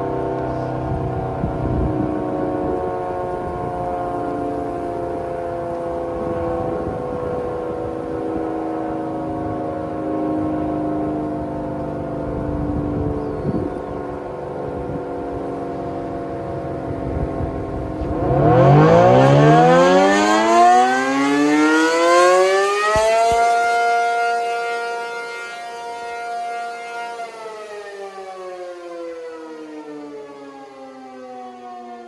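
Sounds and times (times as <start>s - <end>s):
tornado siren wailing: 0.0s - 32.0s.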